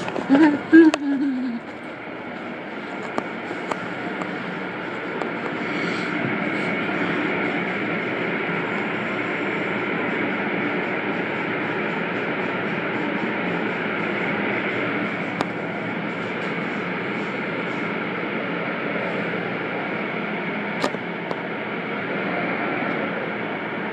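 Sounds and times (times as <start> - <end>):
car wash rushing noise: 1.7 - 23.2.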